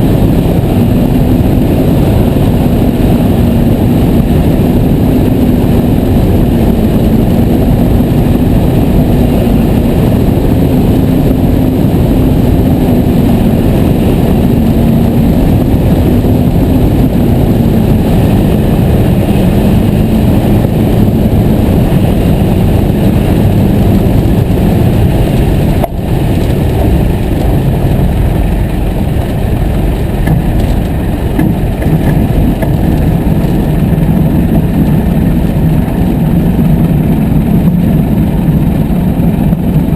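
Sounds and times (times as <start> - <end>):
light aircraft engine running: 0.0 - 39.9.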